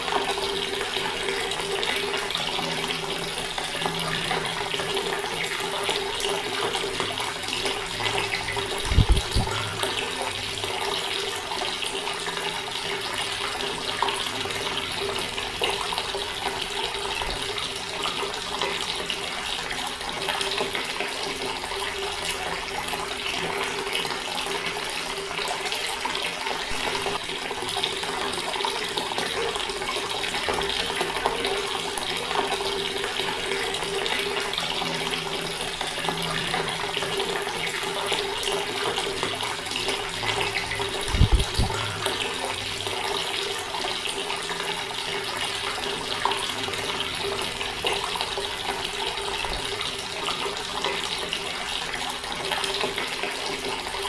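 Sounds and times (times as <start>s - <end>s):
tap water running and splashing: 0.0s - 54.0s.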